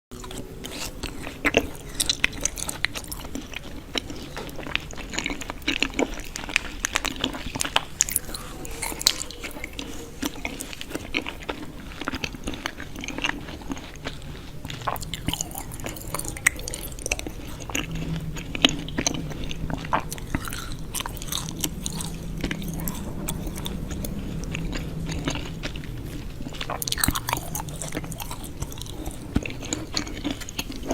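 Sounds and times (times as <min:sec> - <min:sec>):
crunchy chewing: 0:00.1 - 0:30.9
faint low hum: 0:00.1 - 0:30.9.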